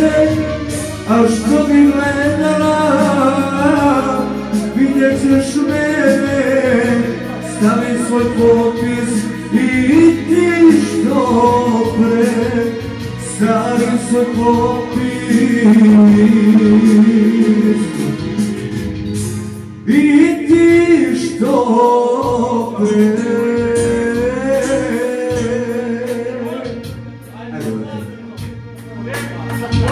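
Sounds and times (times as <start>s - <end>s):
live band music: 0.0s - 29.9s
person singing: 0.0s - 29.9s.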